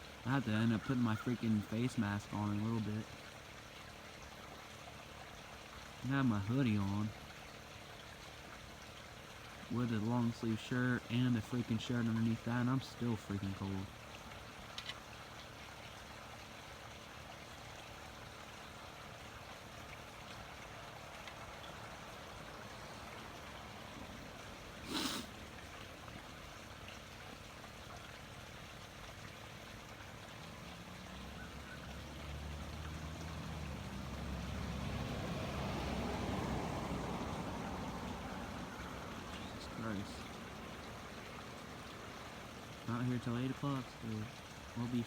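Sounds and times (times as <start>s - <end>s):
outdoor background hiss: 0.0s - 45.0s.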